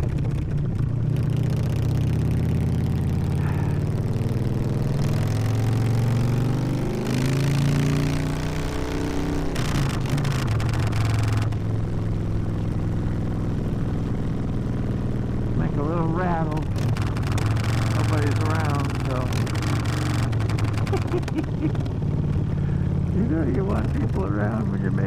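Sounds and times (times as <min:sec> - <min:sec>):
motorcycle with loud exhaust: 0:00.0 - 0:25.0.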